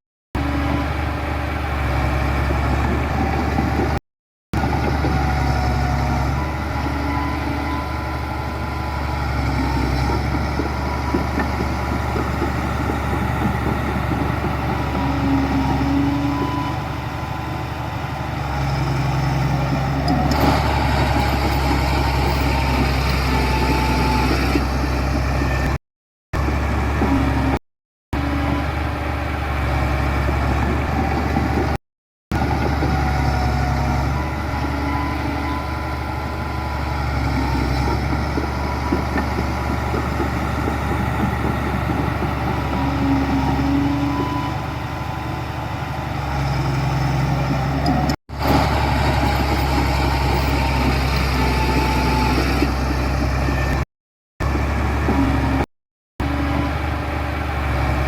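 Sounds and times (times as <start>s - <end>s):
construction machinery diesel engines: 0.4s - 4.0s, 4.6s - 25.8s, 26.4s - 27.6s, 28.2s - 58.0s.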